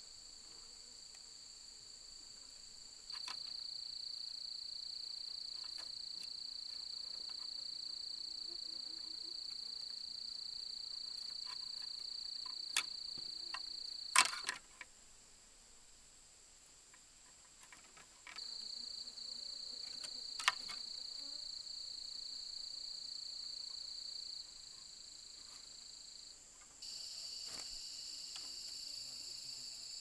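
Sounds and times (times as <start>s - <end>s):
insect droning: 0.0s - 30.0s.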